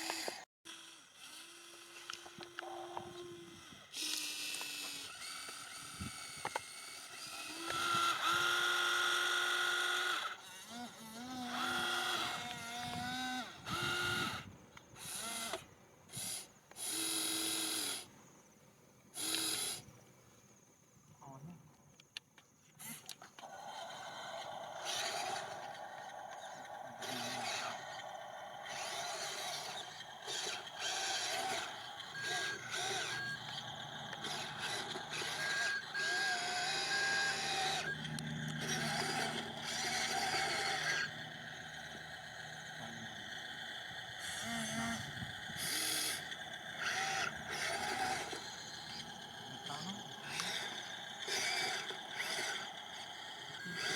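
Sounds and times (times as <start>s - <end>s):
small electric motors whining: 0.0s - 18.1s, 19.1s - 20.0s, 22.7s - 53.9s.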